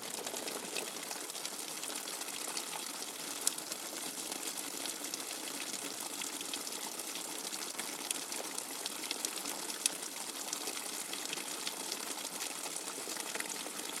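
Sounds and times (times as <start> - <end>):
water drips and splashes: 0.0 - 14.0.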